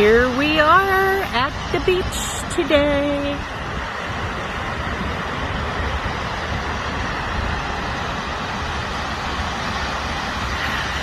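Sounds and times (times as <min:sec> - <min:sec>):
ocean surf roaring: 0:00.0 - 0:11.0.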